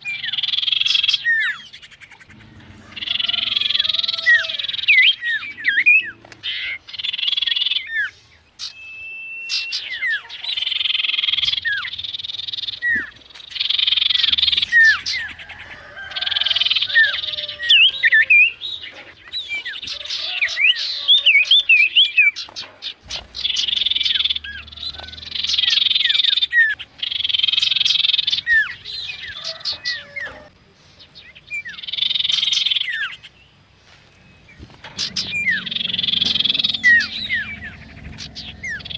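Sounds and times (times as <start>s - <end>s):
harsh buzzy bird calls: 0.0s - 30.6s, 34.3s - 38.9s.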